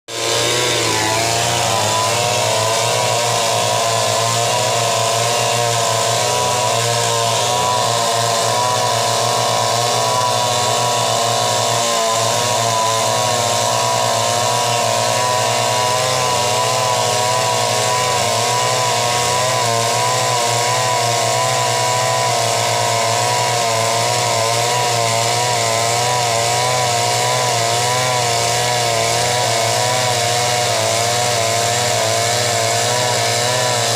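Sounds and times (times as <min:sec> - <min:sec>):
chainsaw engine running: 0:00.1 - 0:33.9.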